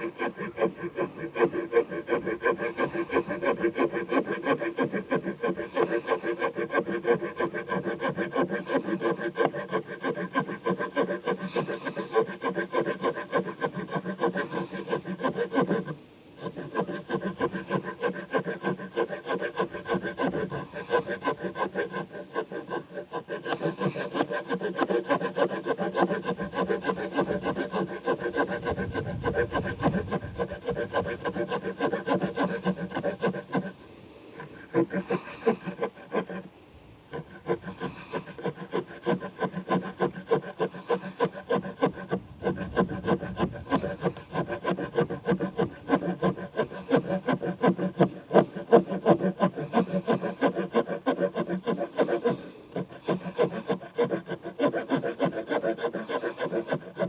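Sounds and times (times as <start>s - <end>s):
knife saw cutting wood: 0.0s - 57.0s.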